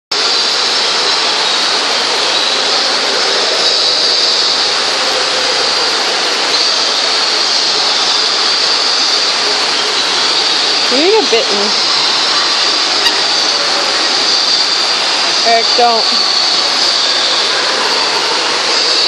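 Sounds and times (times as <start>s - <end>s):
indoor waterfall rushing: 0.1s - 19.0s.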